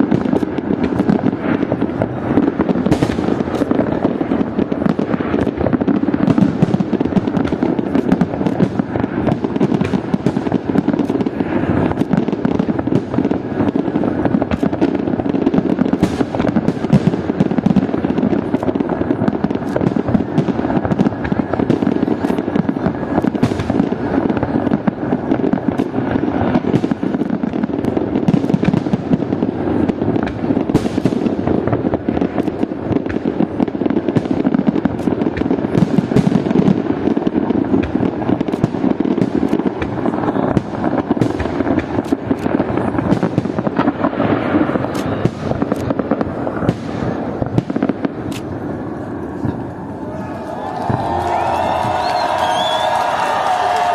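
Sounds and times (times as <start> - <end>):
fireworks banging and crackling: 0.0 - 53.9.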